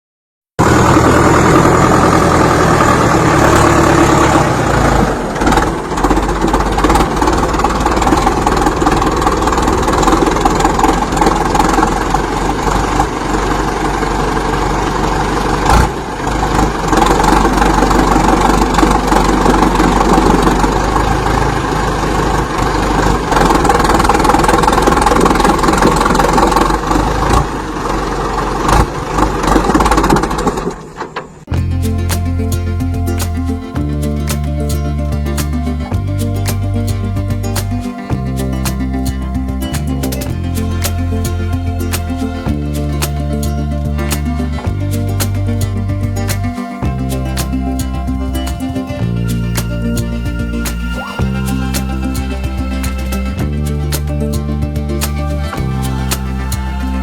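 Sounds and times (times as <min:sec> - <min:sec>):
tractor diesel engine running: 0:00.6 - 0:57.0.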